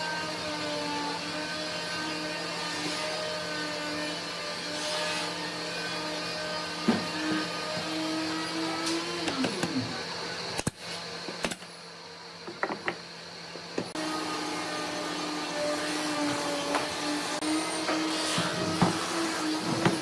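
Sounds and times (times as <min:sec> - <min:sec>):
power tool motor running: 0:00.0 - 0:11.2, 0:12.5 - 0:20.0.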